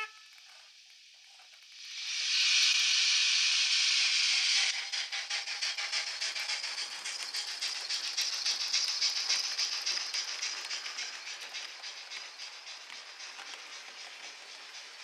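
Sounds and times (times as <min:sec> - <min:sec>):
loud steam hiss: 0:00.7 - 0:15.0
model train clicking over track: 0:00.7 - 0:15.0.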